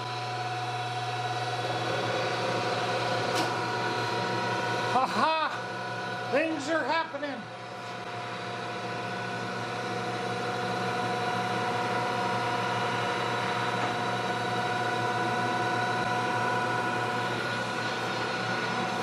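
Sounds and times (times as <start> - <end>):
electric motor hum with whine: 0.0 - 19.0.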